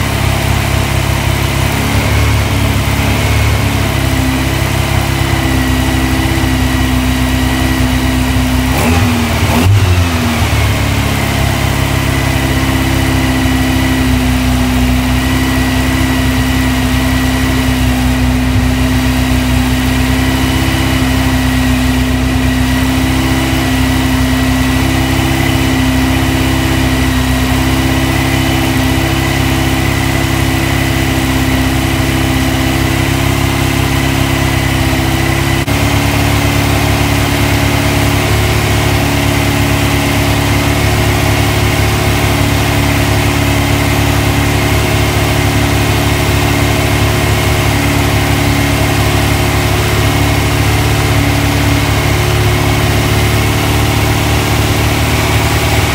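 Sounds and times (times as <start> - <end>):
engine running steadily: 0.0 - 55.9.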